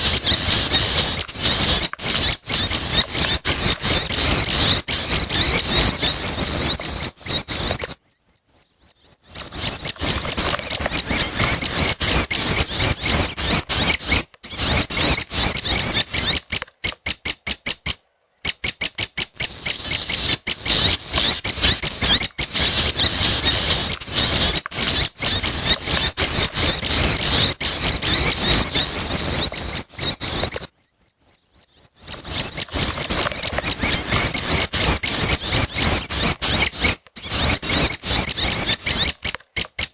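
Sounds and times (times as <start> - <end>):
birds chirping rapidly: 0.0 - 39.9.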